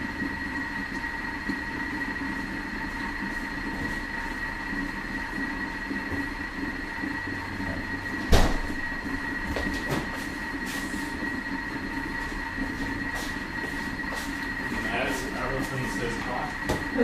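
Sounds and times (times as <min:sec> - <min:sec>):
kitchen machine whining: 0:00.0 - 0:17.0.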